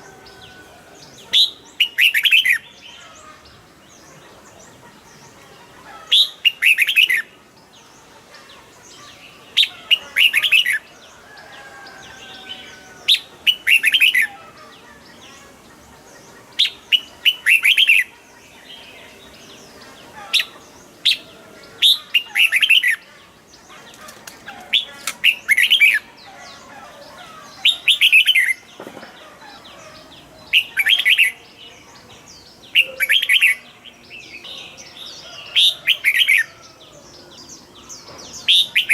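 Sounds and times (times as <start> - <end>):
bird singing bright phrases: 0.0 - 38.9.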